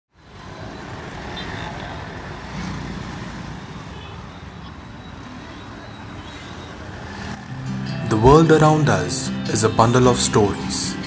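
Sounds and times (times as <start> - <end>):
city street traffic hum: 0.1 - 11.0.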